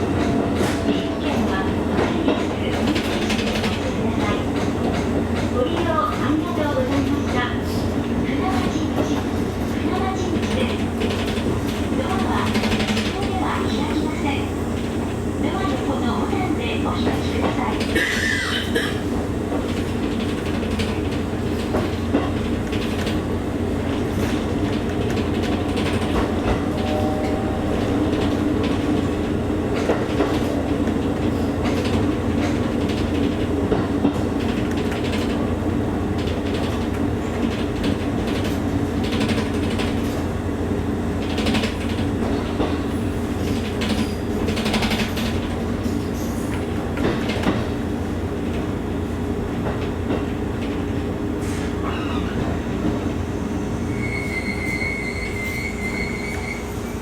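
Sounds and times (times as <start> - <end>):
train running drone: 0.0 - 57.0.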